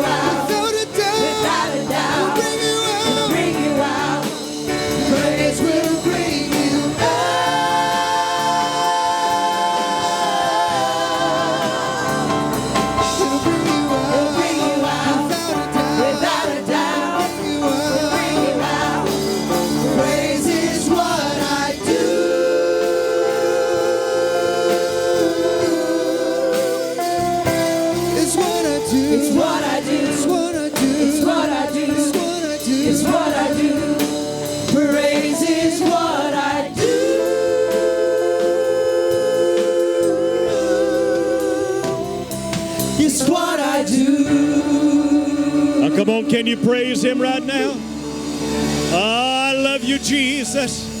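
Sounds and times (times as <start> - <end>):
gospel singing with accompaniment: 0.0 - 51.0.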